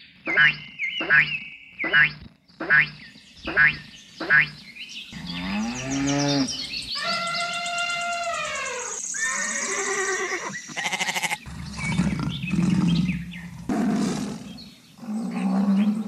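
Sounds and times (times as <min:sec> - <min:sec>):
animal calls: 0:00.3 - 0:16.0.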